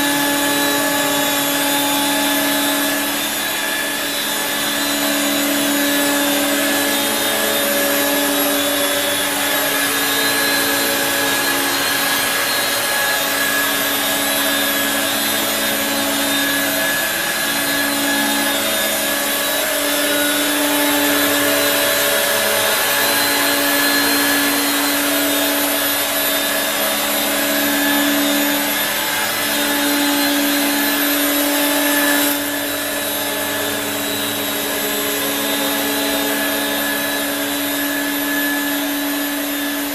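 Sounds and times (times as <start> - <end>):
vacuum cleaner whine and hum: 0.0 - 39.9.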